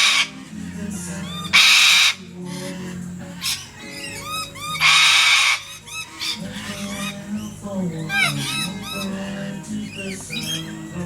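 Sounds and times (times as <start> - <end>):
corellas screeching: 0.0 - 11.0
soft short chirping calls: 1.0 - 11.0.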